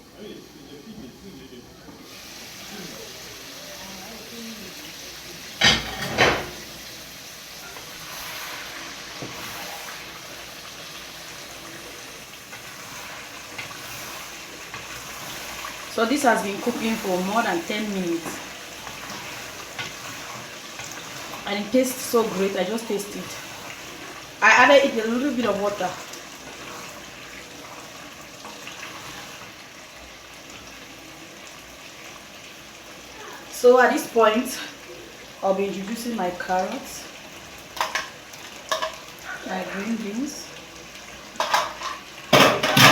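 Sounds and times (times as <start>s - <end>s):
stew simmering hiss: 0.0s - 42.9s.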